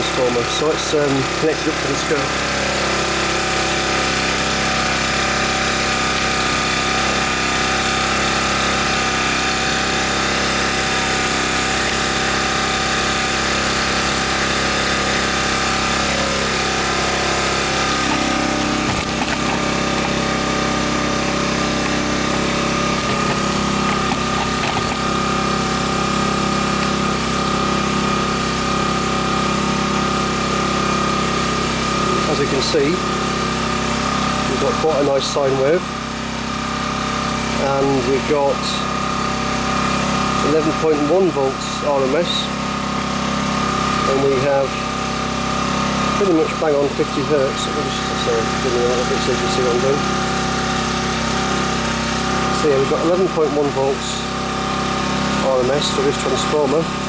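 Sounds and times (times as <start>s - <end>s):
generator engine running steadily: 0.0s - 57.0s.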